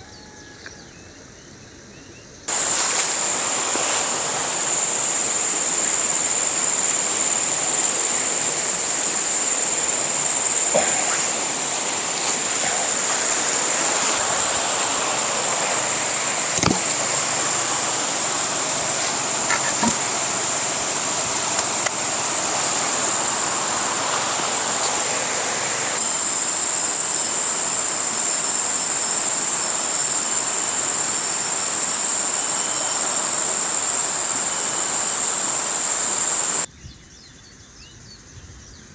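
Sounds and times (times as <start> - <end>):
insect drone: 0.0 - 38.9
insects chirping: 0.0 - 38.9
rushing water: 2.5 - 36.7.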